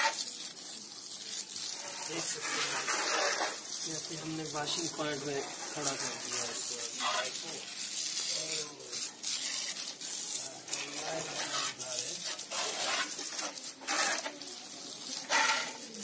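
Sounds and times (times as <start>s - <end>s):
garden hose spraying: 0.0s - 16.0s.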